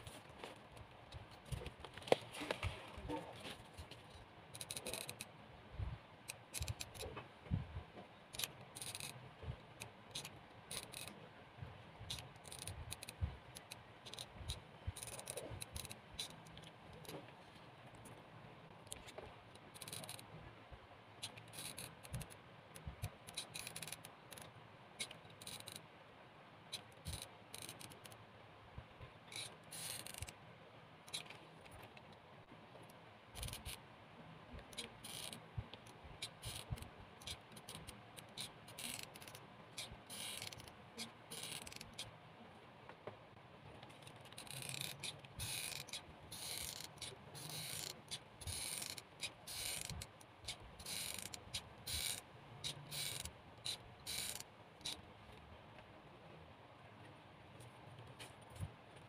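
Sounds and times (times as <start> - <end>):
small clicks and scrapes: 0.0 - 5.4, 6.3 - 11.2, 12.0 - 20.3, 21.2 - 25.9, 26.7 - 28.2, 29.0 - 30.4, 31.1 - 33.8, 34.5 - 42.2, 42.9 - 55.9, 57.6 - 59.0.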